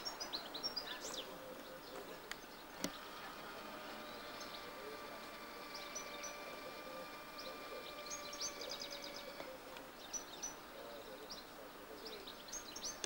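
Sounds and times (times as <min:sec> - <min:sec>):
faint outdoor background noise: 0:00.0 - 0:13.0
small birds chirping: 0:00.0 - 0:13.0.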